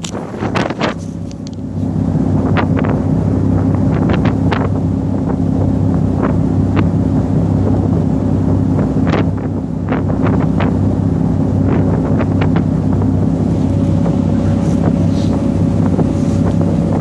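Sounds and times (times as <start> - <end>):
ferry engines droning: 0.0 - 17.0
wake rushing along hull: 0.0 - 17.0
wind buffeting microphone: 0.0 - 17.0.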